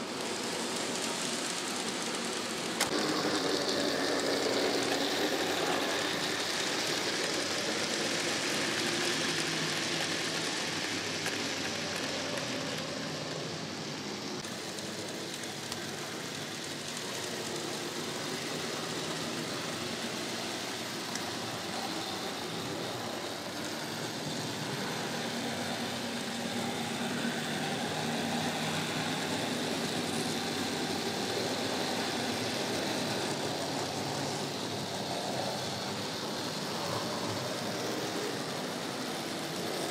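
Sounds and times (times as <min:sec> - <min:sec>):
model train motors whirring: 0:00.0 - 0:39.9.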